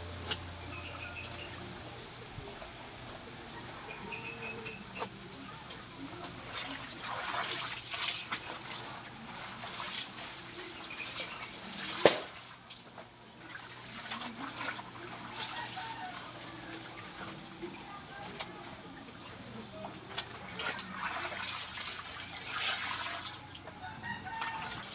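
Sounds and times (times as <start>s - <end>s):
water sloshing and splashing: 3.5s - 24.9s.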